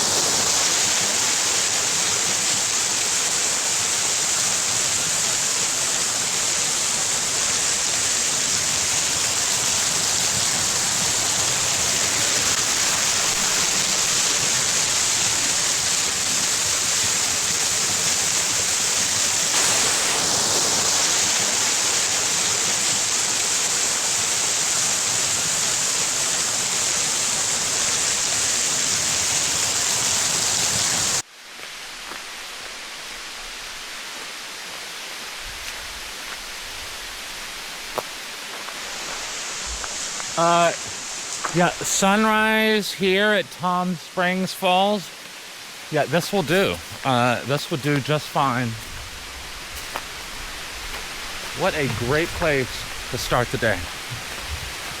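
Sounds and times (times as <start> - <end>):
waterfall rushing: 0.0 - 31.2, 31.9 - 55.0.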